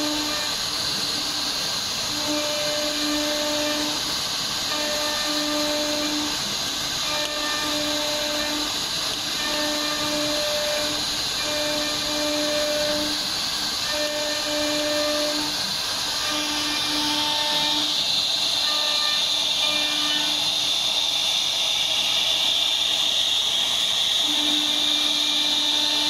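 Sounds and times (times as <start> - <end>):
pitched motor hum: 0.0 - 21.1, 22.1 - 26.0
router spindle cutting hiss: 0.0 - 26.0.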